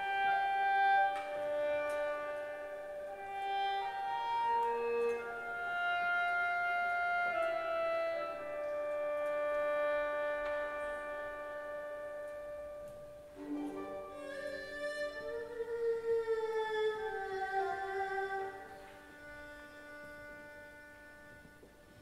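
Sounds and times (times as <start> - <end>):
erhu solo with sliding notes: 0.0 - 22.0
traditional orchestra: 0.0 - 22.0.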